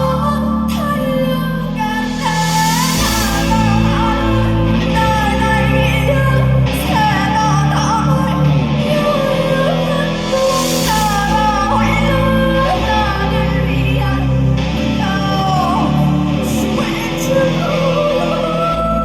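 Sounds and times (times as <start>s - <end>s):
steady bass notes: 0.0s - 19.0s
woman singing: 0.0s - 19.0s.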